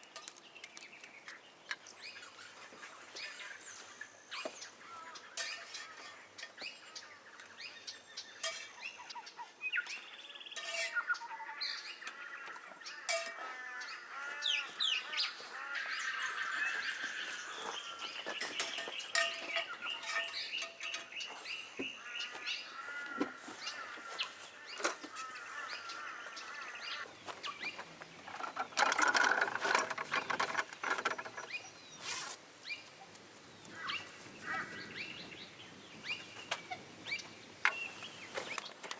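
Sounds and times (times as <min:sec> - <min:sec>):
wild birds chirping and warbling: 0:00.0 - 0:38.9.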